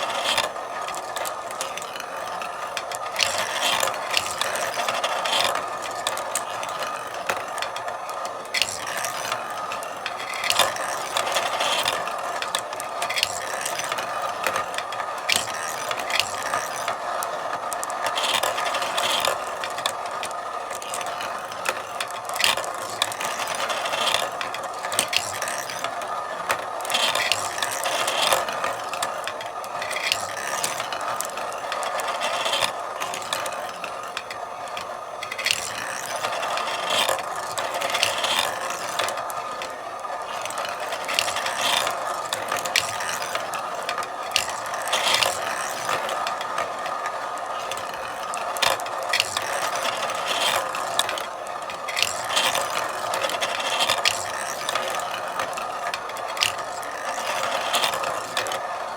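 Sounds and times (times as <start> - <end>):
marbles clicking and clacking: 0.0 - 58.9
marbles rolling along tracks: 0.0 - 58.9.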